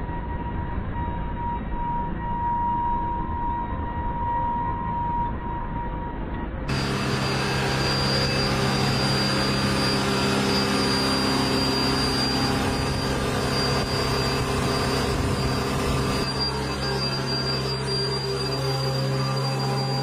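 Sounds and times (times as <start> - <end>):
machine drone with high whine: 0.0 - 20.0.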